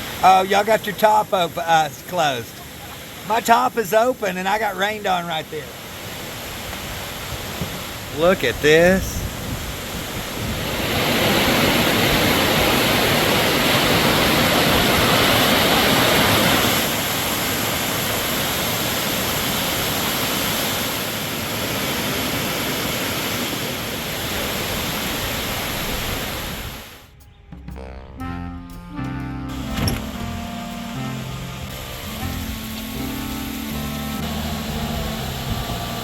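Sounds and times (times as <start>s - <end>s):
waterfall rushing: 0.0s - 9.0s, 9.7s - 27.1s, 29.5s - 36.0s.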